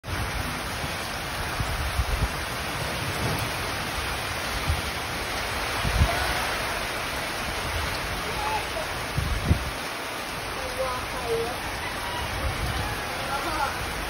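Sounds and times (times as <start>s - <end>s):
heavy rain on metal roofs: 0.0s - 14.0s.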